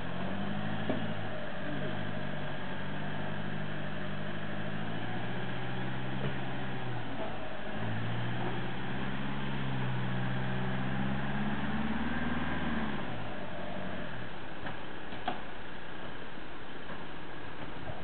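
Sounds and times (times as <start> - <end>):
diesel truck engine running: 0.0 - 15.1.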